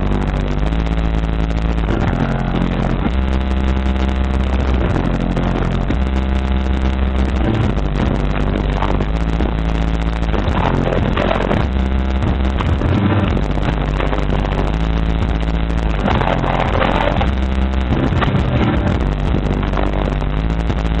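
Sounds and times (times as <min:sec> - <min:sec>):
subwoofer playing bass-heavy music: 0:00.0 - 0:21.0.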